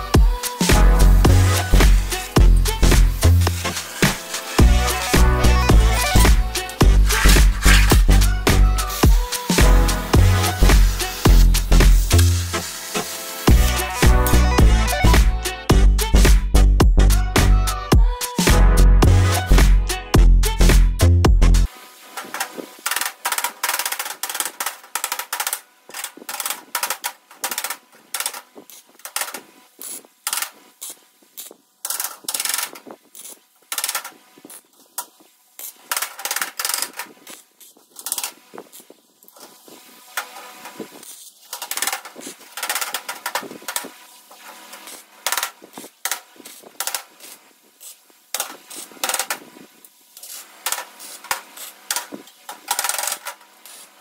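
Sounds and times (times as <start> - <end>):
arc welder crackling: 0.0 - 15.5, 21.6 - 54.0.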